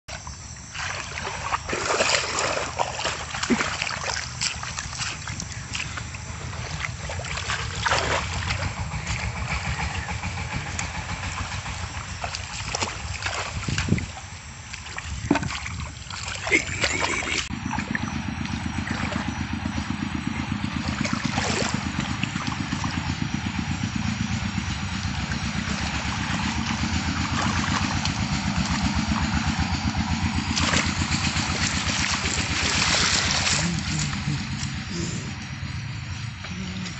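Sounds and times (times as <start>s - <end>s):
water splashing and sloshing: 0.1s - 36.9s
small engine running: 0.2s - 15.0s, 16.5s - 36.9s.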